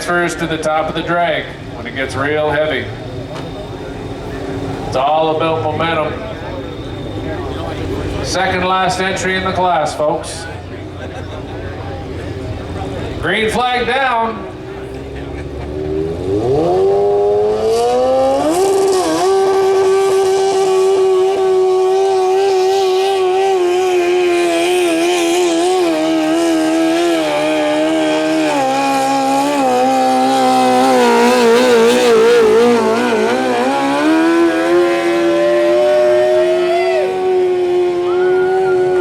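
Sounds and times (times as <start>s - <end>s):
lawn tractor engine at full throttle: 0.0s - 39.0s.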